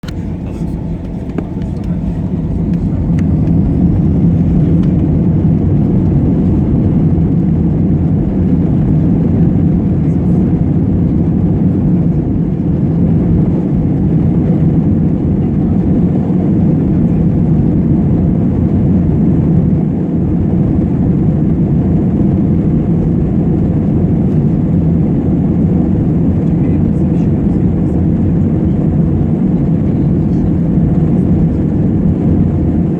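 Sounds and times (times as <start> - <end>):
jet engines rumbling: 0.0 - 32.9.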